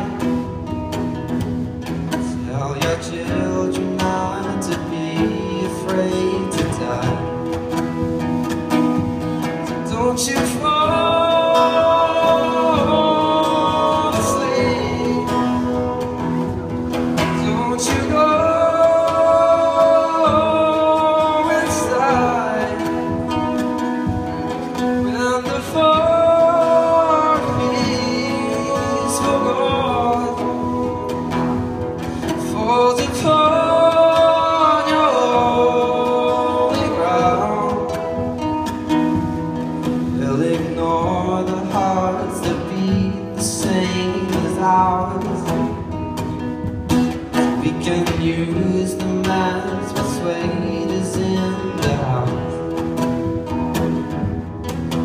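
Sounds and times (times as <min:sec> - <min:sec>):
man singing: 0:00.0 - 0:00.9, 0:02.1 - 0:54.1
strummed guitar chords: 0:00.0 - 0:55.0.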